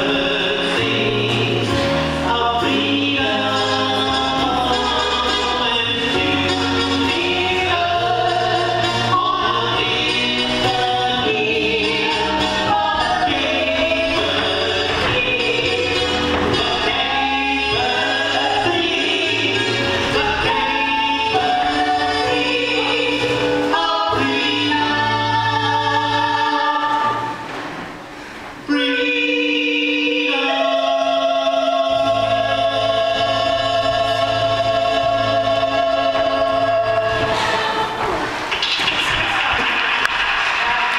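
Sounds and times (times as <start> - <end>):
choir singing long notes: 0.0 - 27.5, 28.6 - 38.6.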